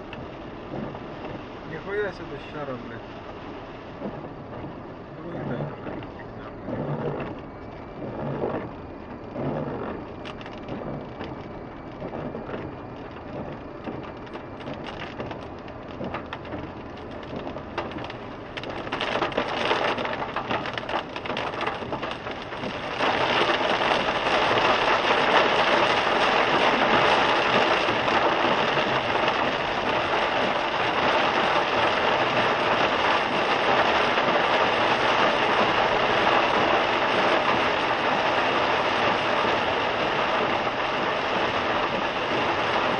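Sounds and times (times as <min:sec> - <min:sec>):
rain drumming on car roof: 0:00.0 - 0:42.9.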